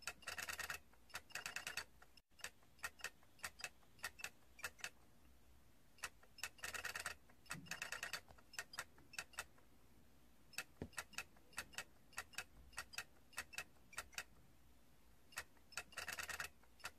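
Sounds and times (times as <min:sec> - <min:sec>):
plastic toy figures clicking: 0:00.0 - 0:05.0, 0:06.0 - 0:09.6, 0:10.5 - 0:14.4, 0:15.3 - 0:16.9.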